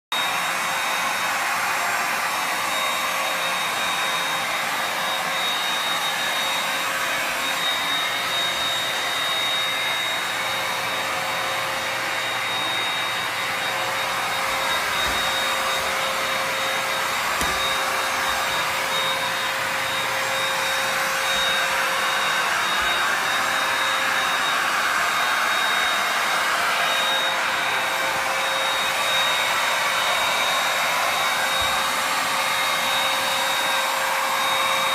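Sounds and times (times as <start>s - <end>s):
vacuum cleaner running: 0.1s - 34.9s.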